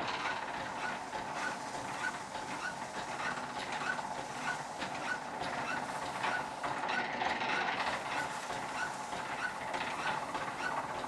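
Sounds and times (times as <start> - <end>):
lathe mechanism chirping: 0.0 - 11.0
cloth rubbing on spinning wood: 0.7 - 6.6, 7.9 - 11.0.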